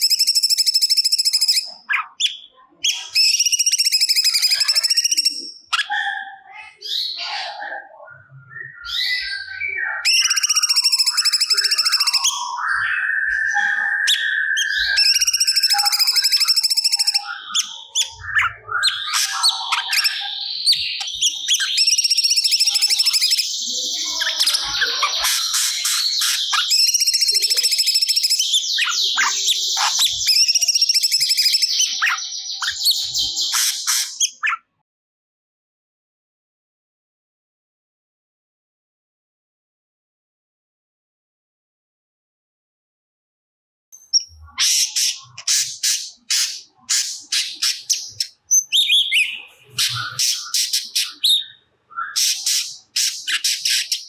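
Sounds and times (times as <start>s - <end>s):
bird singing trilled song: 0.0s - 34.6s, 44.0s - 54.0s.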